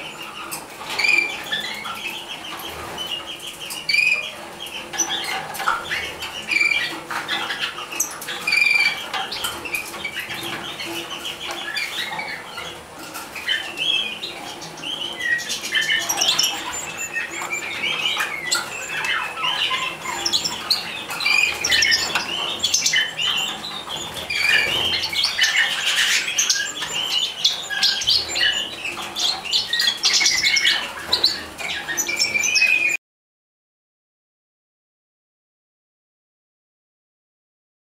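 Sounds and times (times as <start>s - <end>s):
nestlings begging calls: 0.0s - 33.0s.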